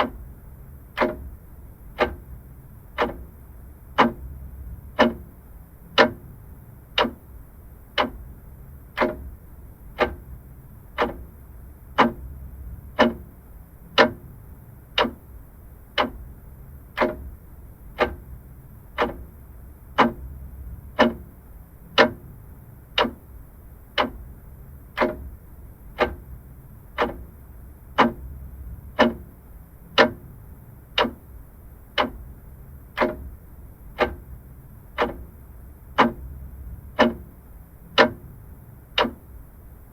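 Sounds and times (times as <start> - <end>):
mechanical clock ticking: 0.0 - 39.9.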